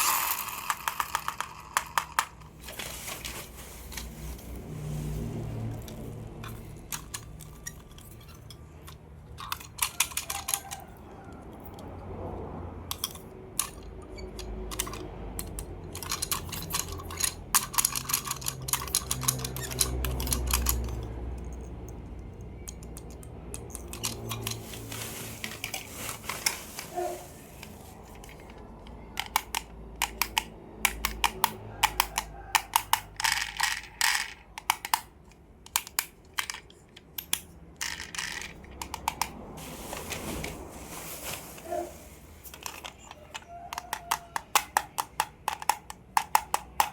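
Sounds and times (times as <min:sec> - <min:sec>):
plastic toys clicking: 0:00.0 - 0:02.9, 0:05.5 - 0:39.6, 0:41.6 - 0:46.9.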